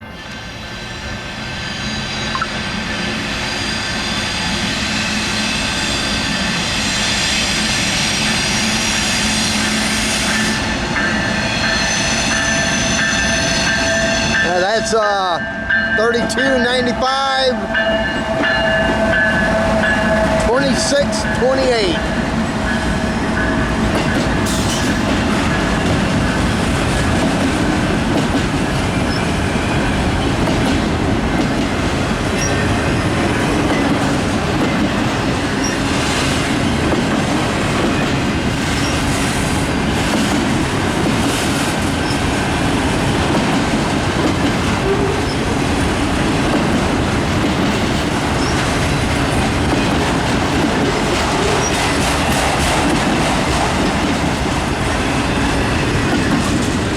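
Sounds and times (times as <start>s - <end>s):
freight train rumbling past: 0.0s - 56.9s.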